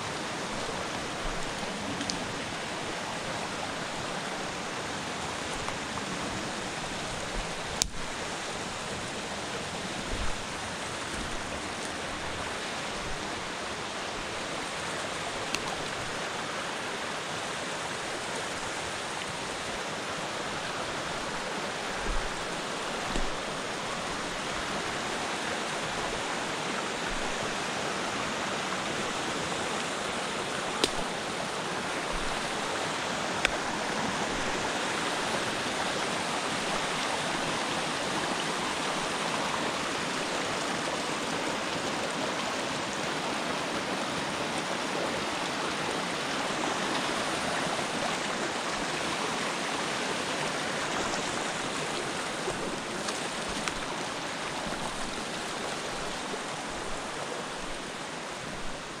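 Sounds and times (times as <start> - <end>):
creek rushing over cascades: 0.0 - 59.0.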